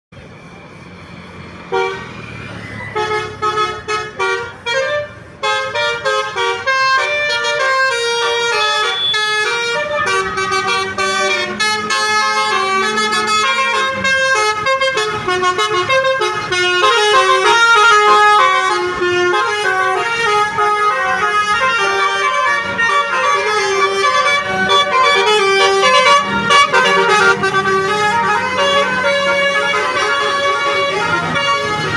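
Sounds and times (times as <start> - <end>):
musical vehicle horn: 1.7 - 31.9.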